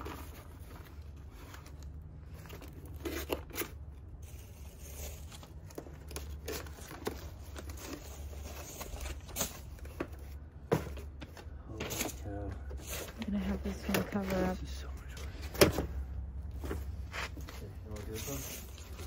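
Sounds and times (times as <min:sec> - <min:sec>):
cardboard and paper rustling: 0:00.0 - 0:19.0.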